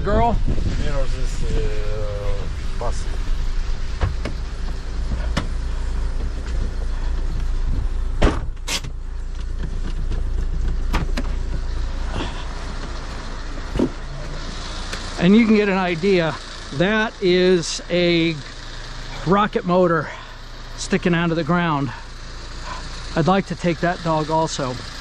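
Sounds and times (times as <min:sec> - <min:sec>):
vehicle engine and road rumble: 0:00.0 - 0:25.0.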